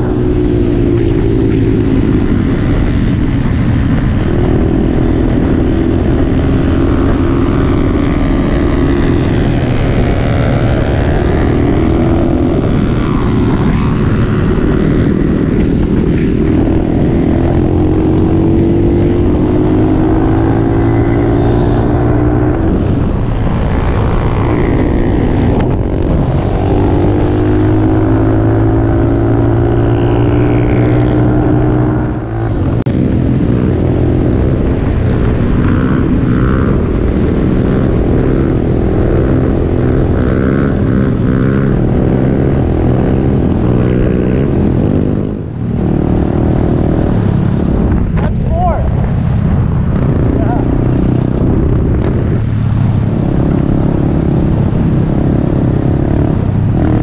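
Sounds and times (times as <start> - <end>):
mini bike engine revving: 0.0 - 48.8
wind rush on microphone: 0.0 - 57.0.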